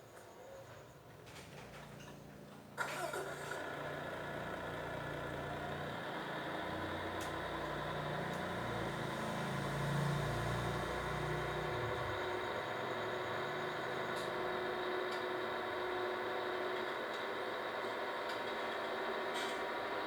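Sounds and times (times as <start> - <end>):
engine idling: 2.8 - 20.0.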